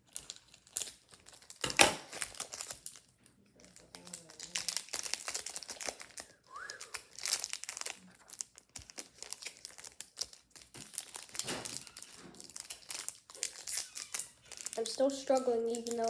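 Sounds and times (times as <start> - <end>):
foil wrapper crinkling: 0.0 - 16.0.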